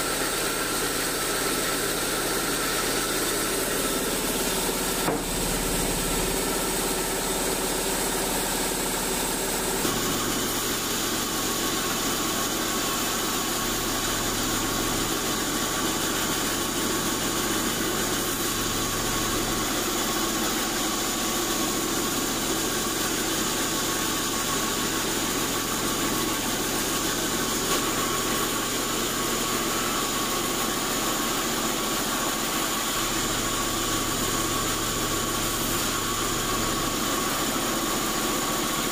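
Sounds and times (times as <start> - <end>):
band saw cutting a log: 0.0 - 38.9.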